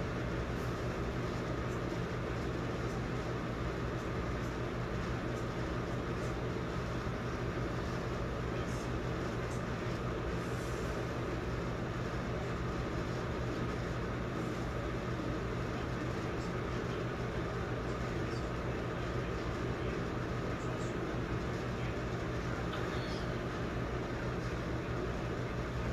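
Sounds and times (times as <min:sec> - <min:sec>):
steady low hum with hiss: 0:00.0 - 0:25.9.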